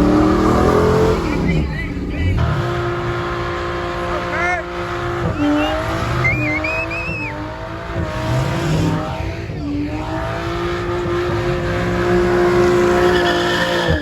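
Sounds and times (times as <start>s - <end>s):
tyres squealing on pavement: 0.0s - 9.9s, 12.2s - 14.0s
truck engine revving: 0.0s - 14.0s.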